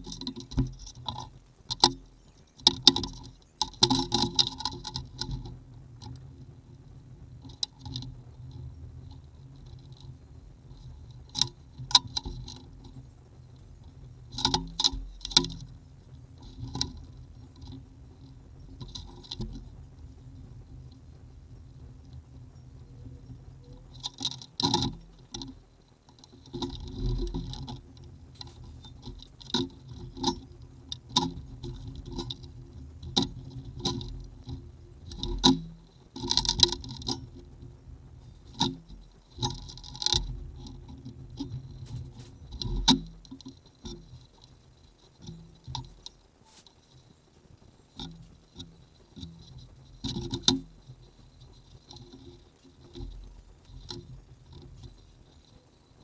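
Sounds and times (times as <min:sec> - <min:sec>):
small tools clicking and rattling: 0:00.0 - 0:06.2, 0:07.4 - 0:10.1, 0:14.3 - 0:15.8, 0:16.4 - 0:20.1, 0:23.8 - 0:56.0.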